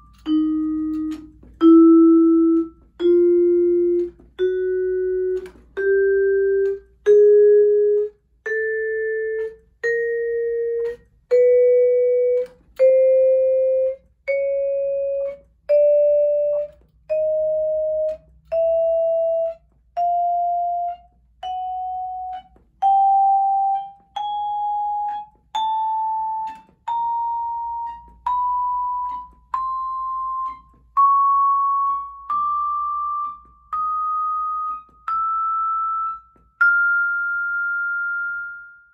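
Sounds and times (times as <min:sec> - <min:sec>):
vibraphone notes struck with mallet: 0:00.0 - 0:38.9.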